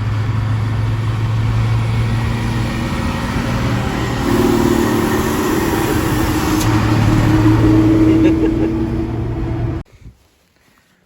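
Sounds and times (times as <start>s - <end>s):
higher engine note: 0.0s - 9.8s
vehicle engine humming: 0.0s - 9.9s.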